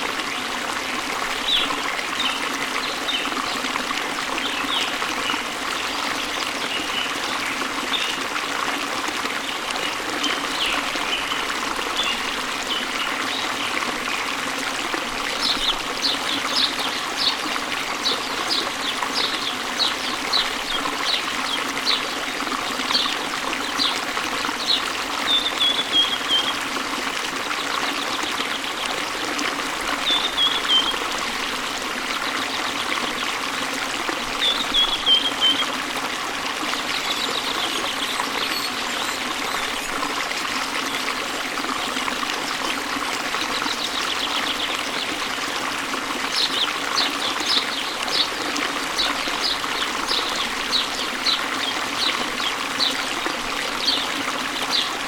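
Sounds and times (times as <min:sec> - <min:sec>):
waterfall pouring into a stream: 0:00.0 - 0:55.0.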